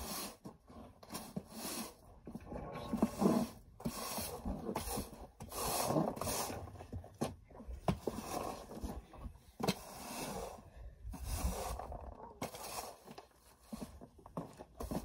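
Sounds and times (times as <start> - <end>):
broom sweeping concrete floor: 0.0 - 7.2, 7.8 - 15.0.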